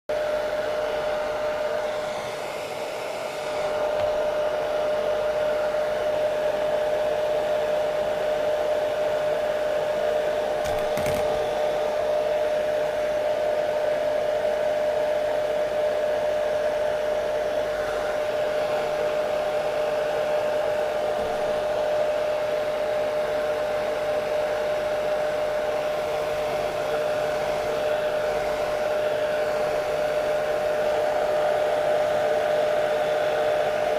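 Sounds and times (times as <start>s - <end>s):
hair dryer running: 0.1s - 33.9s.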